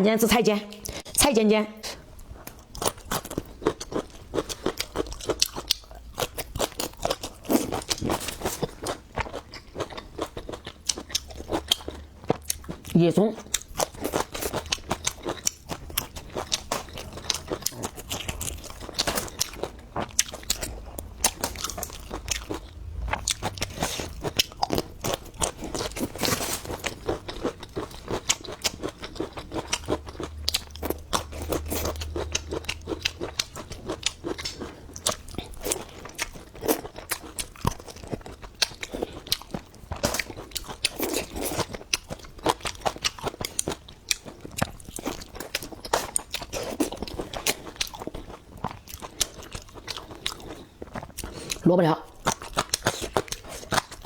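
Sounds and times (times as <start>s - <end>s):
crunchy food chewing: 1.9s - 54.0s.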